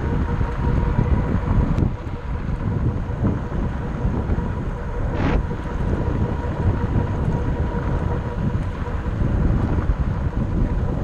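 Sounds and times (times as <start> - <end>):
faint steady whine: 0.0 - 11.0
wind buffeting microphone: 0.0 - 11.0.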